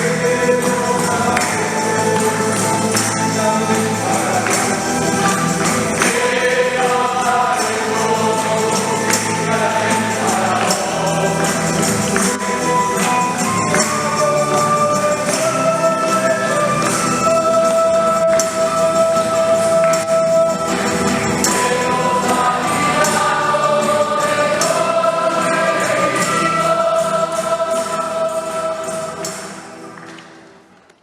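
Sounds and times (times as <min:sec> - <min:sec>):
choir singing a hymn: 0:00.0 - 0:29.9
tambourine jingling: 0:00.0 - 0:30.0.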